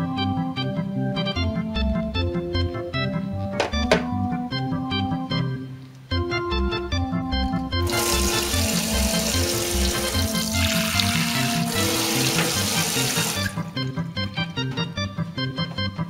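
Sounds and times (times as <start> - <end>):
organ music with bass line: 0.0 - 16.0.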